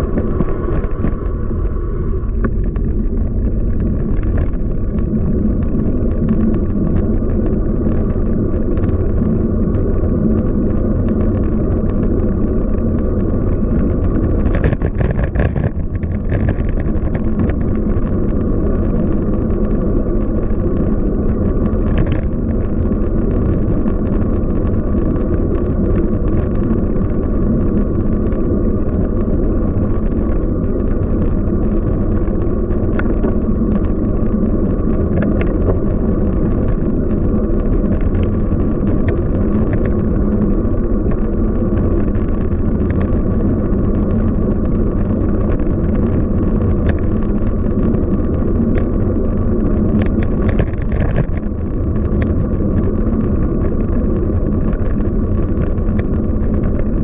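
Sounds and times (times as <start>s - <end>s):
bicycle road rumble: 0.0s - 57.0s
wind: 0.0s - 57.0s.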